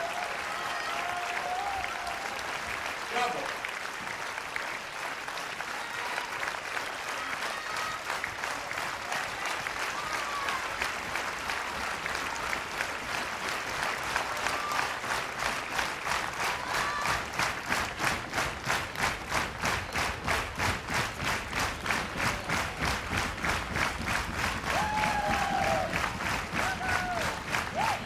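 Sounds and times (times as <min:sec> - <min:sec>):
audience applauding: 0:00.0 - 0:28.0
rhythmic clapping in unison: 0:00.0 - 0:28.0.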